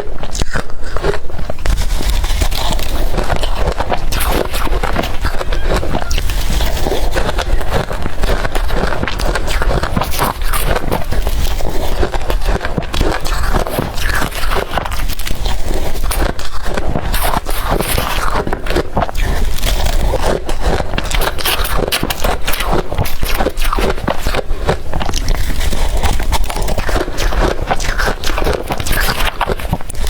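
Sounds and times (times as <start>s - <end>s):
crushed ice crunching: 0.0s - 30.0s.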